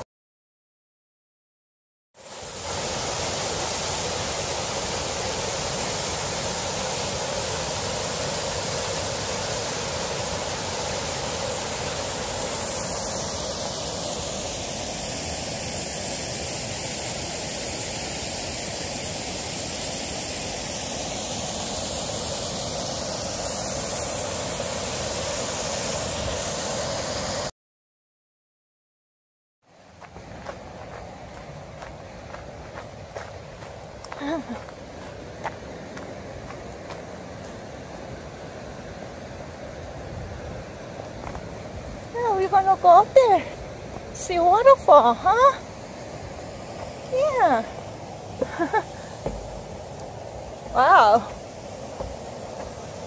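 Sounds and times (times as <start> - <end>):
waterfall and river rapids rushing: 2.2 - 27.5, 29.7 - 53.0.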